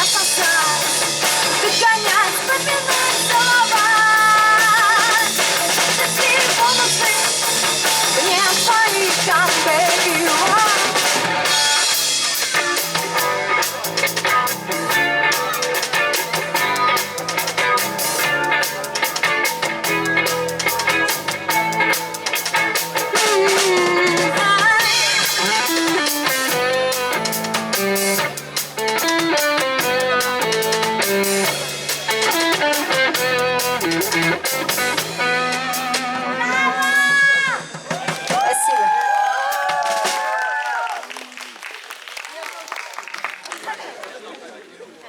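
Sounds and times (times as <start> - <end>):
electric guitar melody: 0.0 - 37.3
bass line: 0.0 - 38.5
drum kit: 0.0 - 41.0.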